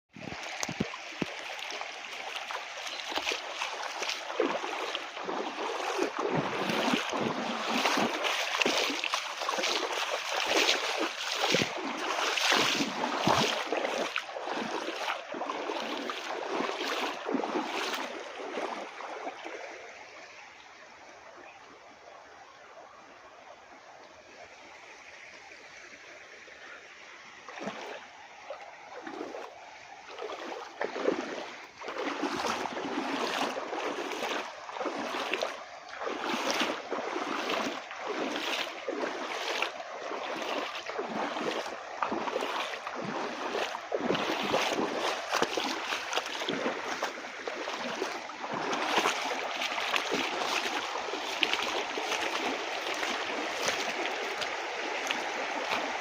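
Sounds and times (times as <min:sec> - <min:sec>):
stream water flowing: 0:00.1 - 0:56.0.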